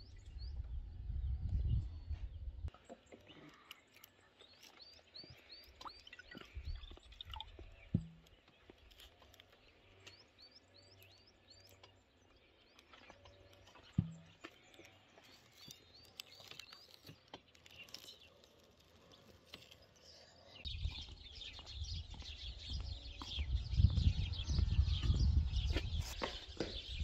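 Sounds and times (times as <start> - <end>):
small songbird chirping: 0.0 - 27.0.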